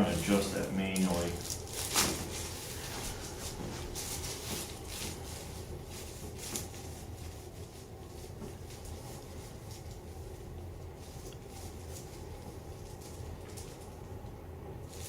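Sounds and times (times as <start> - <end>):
clothing rustling: 0.0 - 13.9
steady low hum: 0.0 - 15.0.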